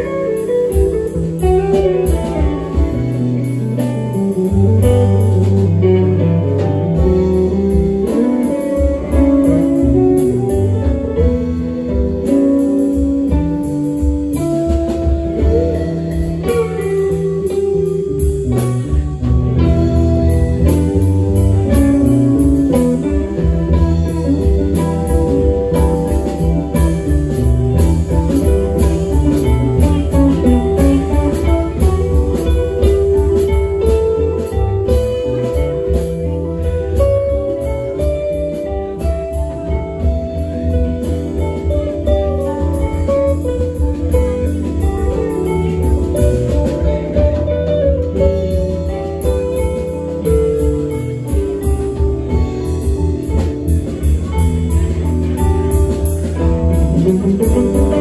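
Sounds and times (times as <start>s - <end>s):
bass guitar: 0.0s - 58.0s
drums: 0.0s - 58.0s
electric guitar lines: 0.0s - 58.0s.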